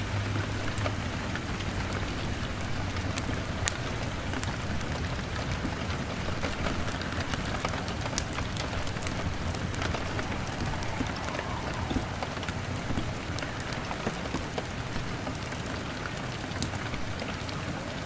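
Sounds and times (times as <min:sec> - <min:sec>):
rain on a window: 0:00.0 - 0:18.0
fire crackling: 0:00.3 - 0:18.0.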